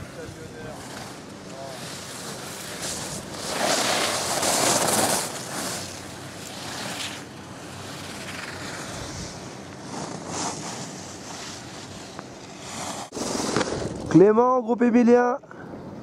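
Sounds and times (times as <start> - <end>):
skis scraping on hard snow: 0.0 - 14.2.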